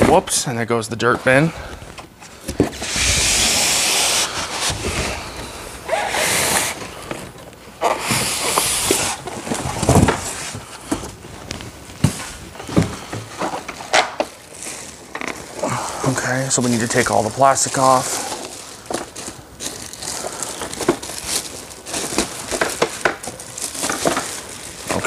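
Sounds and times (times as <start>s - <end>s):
packaging scraping and rustling: 2.2s - 25.0s.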